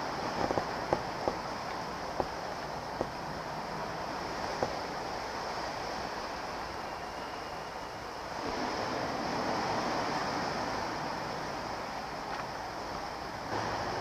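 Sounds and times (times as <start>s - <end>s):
ocean waves washing: 0.0s - 14.0s.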